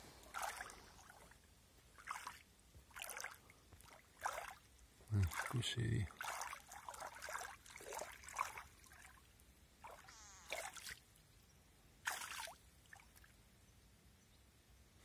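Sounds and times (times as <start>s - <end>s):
faint water splashing and dripping: 0.0s - 11.4s, 12.0s - 13.5s.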